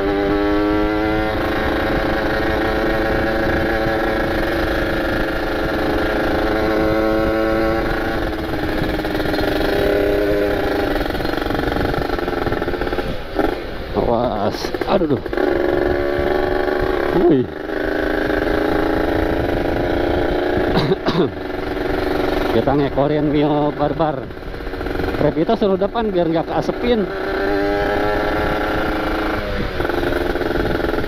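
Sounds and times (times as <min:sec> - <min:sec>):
wind on microphone: 0:00.0 - 0:25.7, 0:26.9 - 0:31.0
motorcycle engine running: 0:00.0 - 0:31.0.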